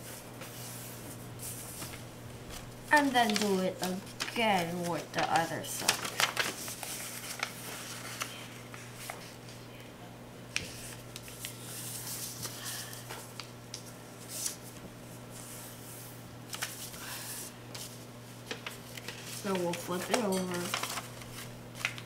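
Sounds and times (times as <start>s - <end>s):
paper rustling and crinkling: 0.0s - 9.6s, 10.6s - 22.0s
steady low hum: 0.0s - 22.0s.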